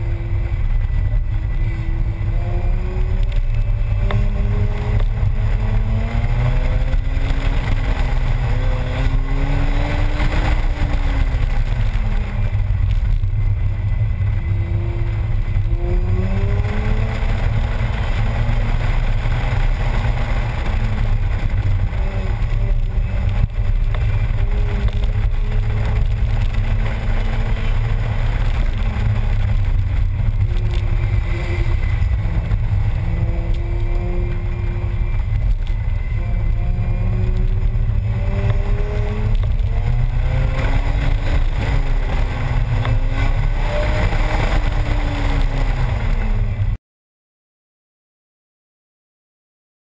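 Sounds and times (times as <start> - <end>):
rotary engine revving: 0.0 - 46.8.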